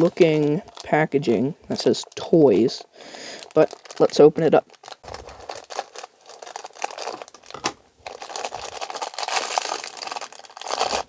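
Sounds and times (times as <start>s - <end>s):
packaging crinkling: 0.0s - 2.4s, 3.1s - 11.0s.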